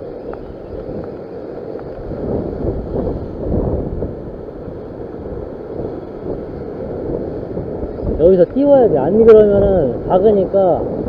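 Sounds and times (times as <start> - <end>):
sea waves washing over rocks: 0.0 - 11.0
wind buffeting microphone: 0.0 - 11.0.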